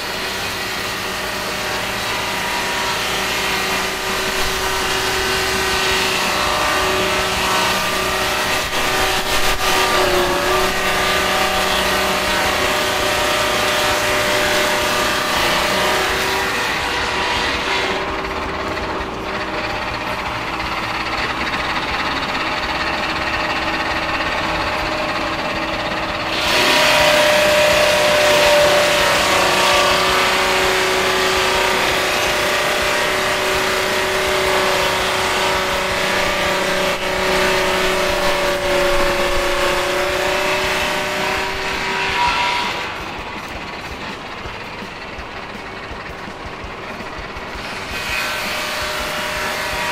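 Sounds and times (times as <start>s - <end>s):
circular saw blade whining: 0.0s - 49.9s
sawing hiss through log: 0.0s - 49.9s.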